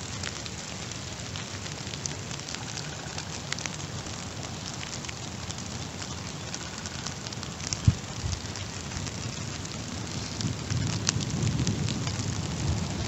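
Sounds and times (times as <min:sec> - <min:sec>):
rain on wet ground: 0:00.0 - 0:13.0.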